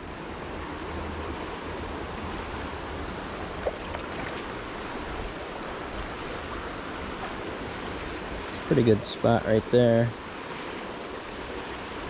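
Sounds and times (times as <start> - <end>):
creek rushing over rocks: 0.2 - 12.0.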